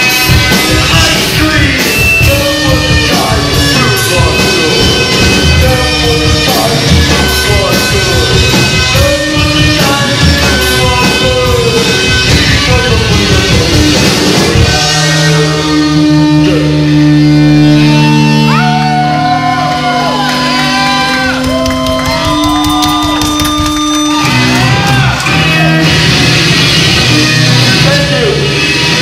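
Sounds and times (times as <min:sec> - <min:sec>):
person singing: 0:00.0 - 0:25.9
drum kit: 0:00.0 - 0:29.0
rock band playing: 0:00.0 - 0:29.0.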